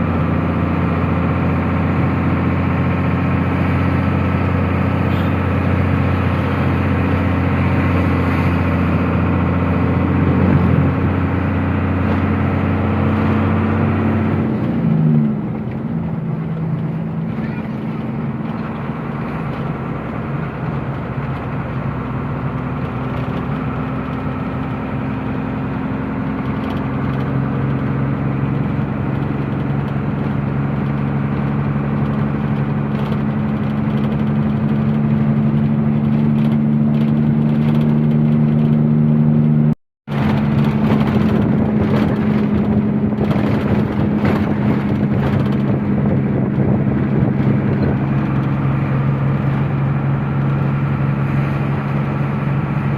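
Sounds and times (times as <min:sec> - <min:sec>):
heavy engine humming: 0:00.0 - 0:52.9.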